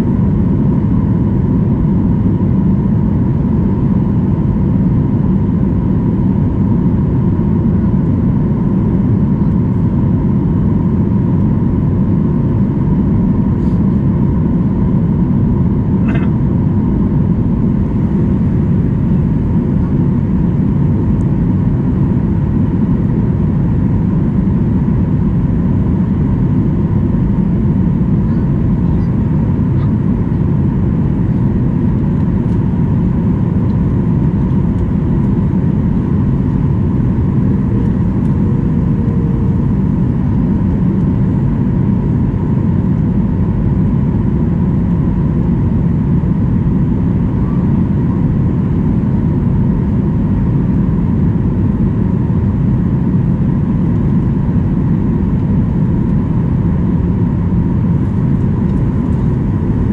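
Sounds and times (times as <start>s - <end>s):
airplane cabin rumble: 0.0s - 59.9s
thin steady whine: 0.0s - 59.9s.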